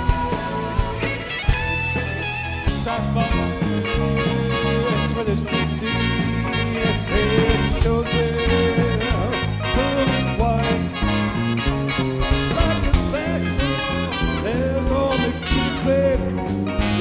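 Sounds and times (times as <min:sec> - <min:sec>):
live swing band music: 0:00.0 - 0:17.0.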